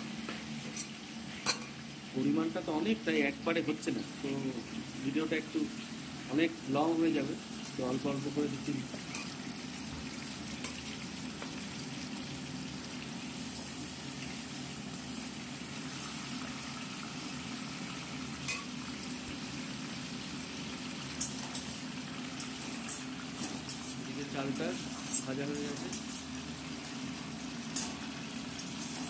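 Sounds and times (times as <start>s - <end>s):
fish frying in hot oil: 0.0s - 29.0s.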